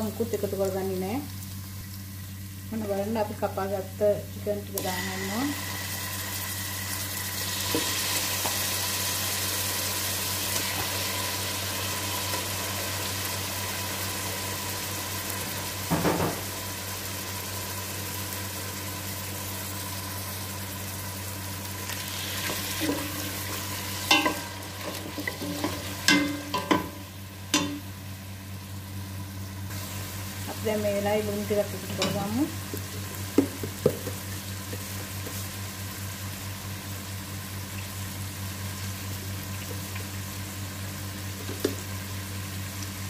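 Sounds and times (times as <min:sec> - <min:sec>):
chicken sizzling in hot oil: 0:00.0 - 0:43.0.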